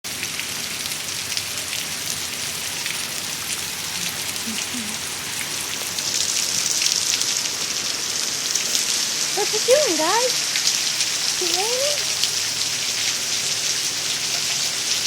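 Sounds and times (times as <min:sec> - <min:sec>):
rain drops ticking: 0:00.1 - 0:15.0.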